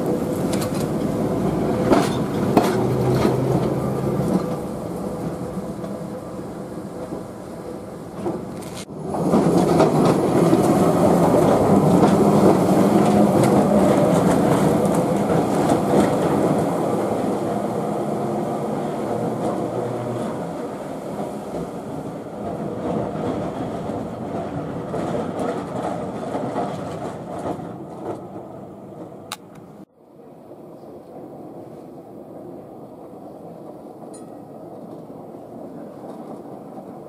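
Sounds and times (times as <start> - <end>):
tram wheels clattering over rails: 0.0 - 29.9, 30.7 - 37.0.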